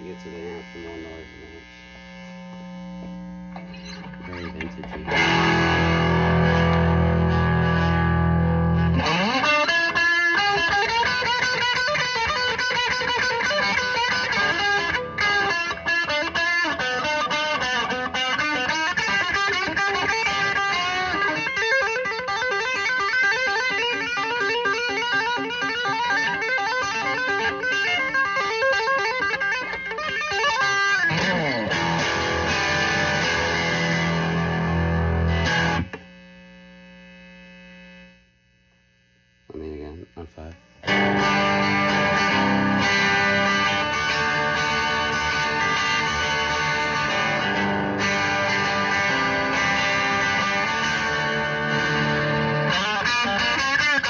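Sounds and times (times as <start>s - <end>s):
electric guitar playing: 0.0s - 38.2s, 40.4s - 54.0s
amp hum and buzz: 0.0s - 54.0s.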